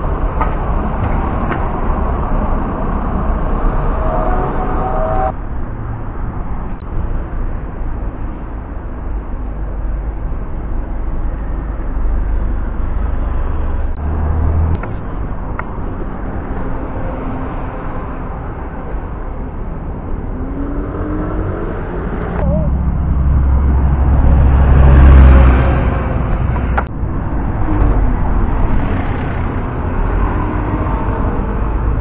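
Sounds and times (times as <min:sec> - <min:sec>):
buses driving past: 0:00.0 - 0:32.0.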